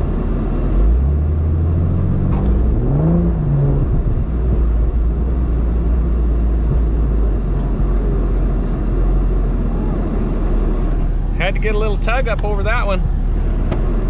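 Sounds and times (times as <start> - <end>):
off-road vehicle engine revving: 0.0 - 14.0.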